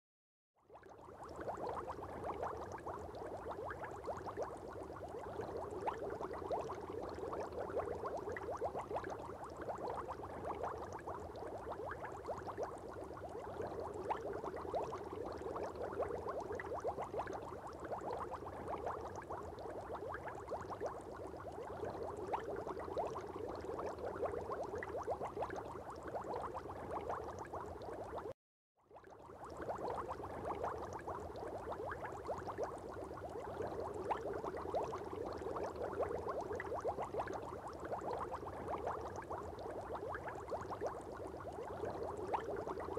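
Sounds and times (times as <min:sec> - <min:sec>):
aquarium water bubbling: 0:00.6 - 0:42.9.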